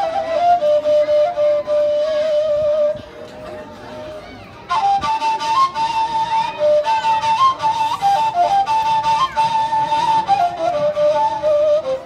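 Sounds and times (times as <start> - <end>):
folk flute melody with trills: 0.0 - 12.0.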